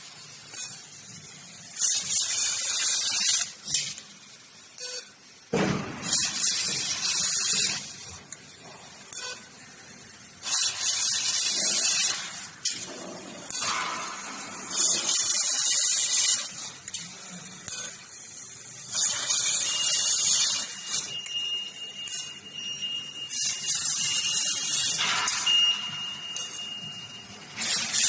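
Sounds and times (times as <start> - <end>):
laser machine firing high hiss: 0.0 - 4.3, 5.4 - 8.7, 9.8 - 21.2, 23.3 - 28.0.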